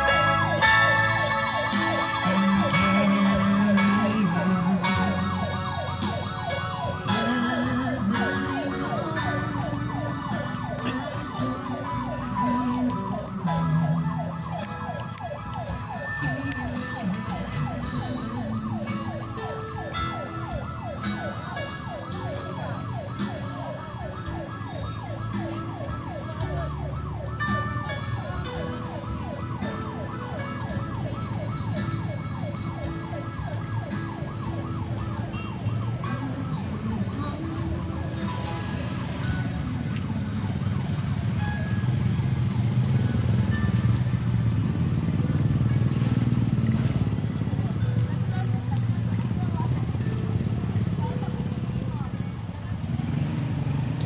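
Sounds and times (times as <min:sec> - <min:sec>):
vehicle siren yelping: 0:00.0 - 0:54.0.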